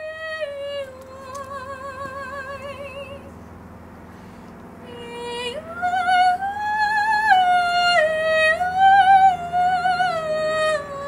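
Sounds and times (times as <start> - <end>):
woman singing with vibrato: 0.0 - 3.4, 4.8 - 11.0.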